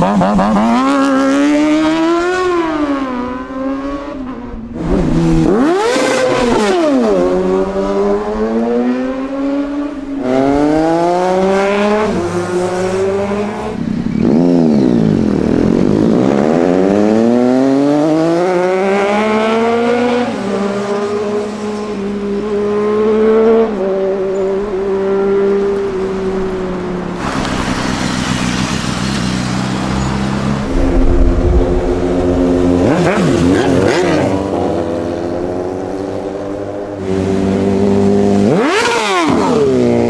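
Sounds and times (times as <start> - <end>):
motorcycle engine revving: 0.0 - 26.6, 27.2 - 40.0.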